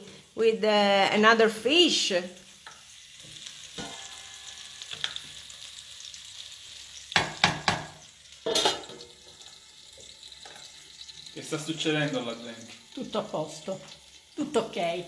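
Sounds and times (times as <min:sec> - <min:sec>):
tomatoes and onion sizzling in oil: 0:00.0 - 0:15.0.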